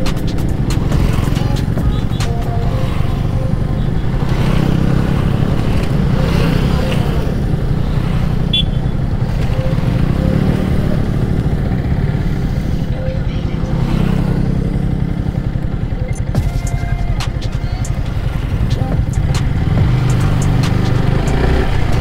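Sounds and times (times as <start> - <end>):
motorcycle engine and road rumble: 0.0 - 22.0.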